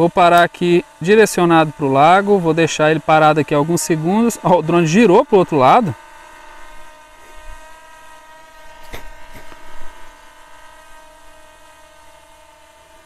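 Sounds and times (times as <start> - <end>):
drone propellers humming: 0.0 - 13.0.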